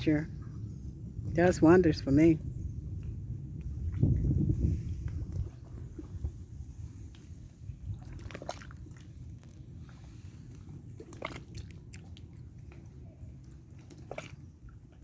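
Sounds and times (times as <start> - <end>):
water lapping and splashing: 0.0 - 15.0
wind rumbling on microphone: 0.0 - 15.0.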